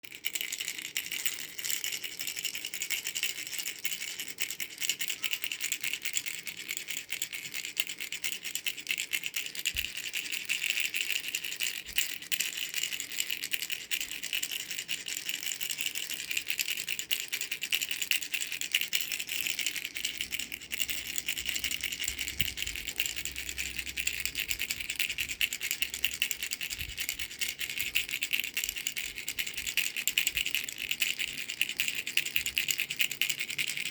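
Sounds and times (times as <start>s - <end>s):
baby rattle shaking: 0.1s - 33.9s.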